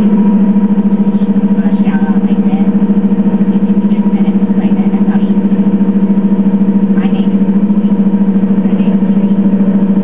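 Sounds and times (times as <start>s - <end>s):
bus engine humming: 0.0s - 10.0s.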